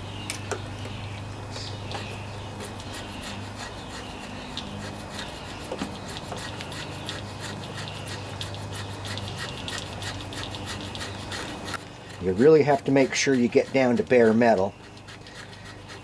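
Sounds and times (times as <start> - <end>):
scraper scraping metal: 2.0 - 16.0.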